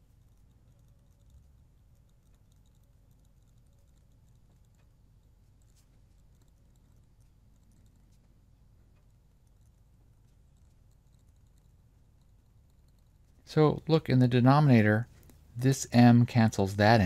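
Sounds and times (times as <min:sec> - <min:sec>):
stylus ticking on tablet screen: 0:00.0 - 0:14.4
low room hum: 0:00.0 - 0:17.0.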